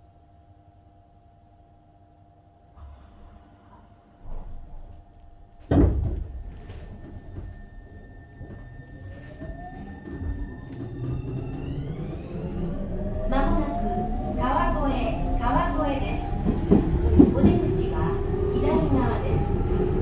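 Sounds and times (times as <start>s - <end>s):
train inverter whine rising: 2.6s - 20.0s
train car rumble: 2.8s - 20.0s.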